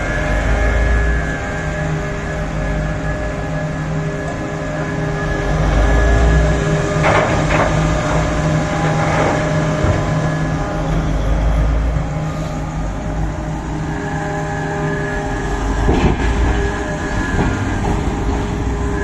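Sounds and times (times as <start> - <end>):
excavator running: 0.0 - 19.0.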